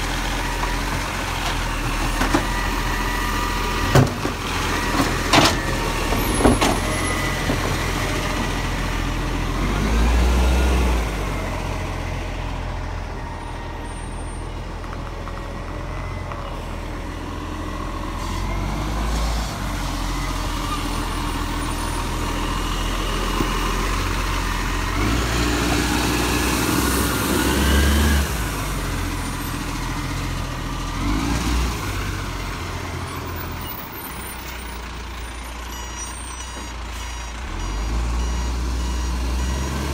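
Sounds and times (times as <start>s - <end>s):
garbage truck diesel drone: 0.0s - 39.9s.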